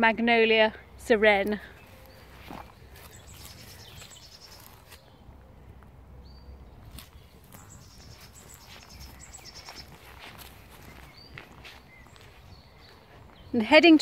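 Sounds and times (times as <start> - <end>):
outdoor ambience: 0.0 - 14.0
small birds chirping: 0.4 - 14.0.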